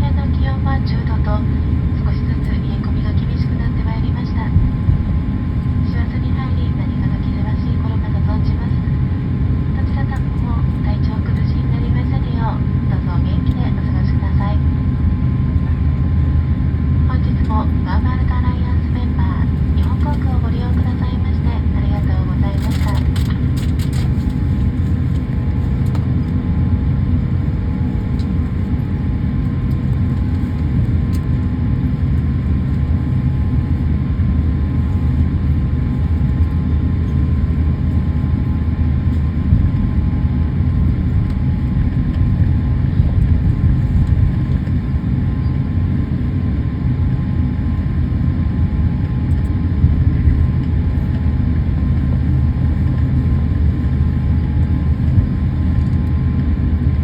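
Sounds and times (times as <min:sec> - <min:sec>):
jet cabin engine rumble: 0:00.0 - 0:57.0.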